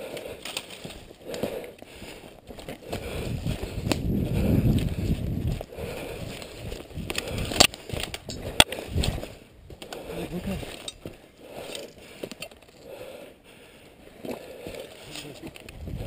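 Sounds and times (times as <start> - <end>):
twigs cracking: 0.0 - 4.1, 4.7 - 12.9, 14.2 - 15.8.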